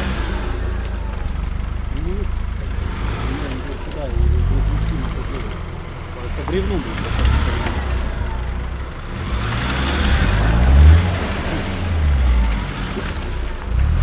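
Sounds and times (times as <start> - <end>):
pickup truck engine revving: 0.0 - 14.0.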